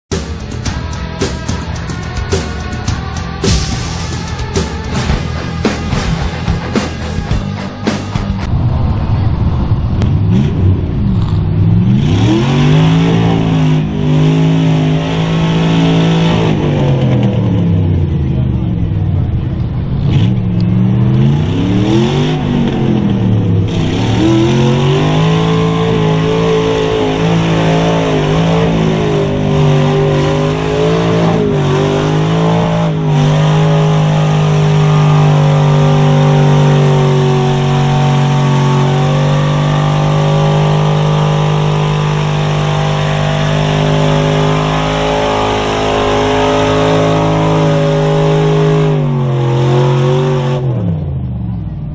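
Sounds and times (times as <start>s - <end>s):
pickup truck engine revving: 0.0s - 51.2s.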